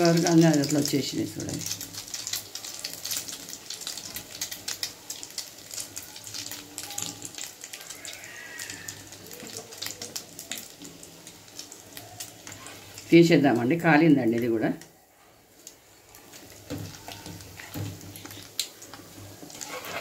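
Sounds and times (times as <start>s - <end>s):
bread sizzling in hot oil: 0.0s - 20.0s.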